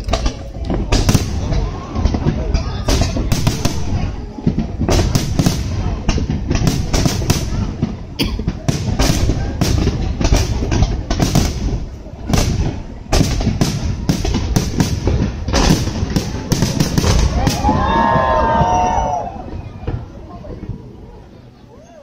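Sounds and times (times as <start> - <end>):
fireworks bursts and bangs: 0.0 - 20.8.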